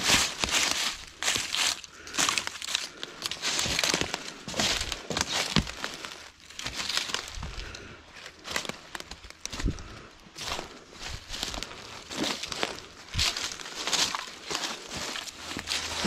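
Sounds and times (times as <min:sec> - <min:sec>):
footsteps crunching through dry leaves: 0:00.0 - 0:16.0.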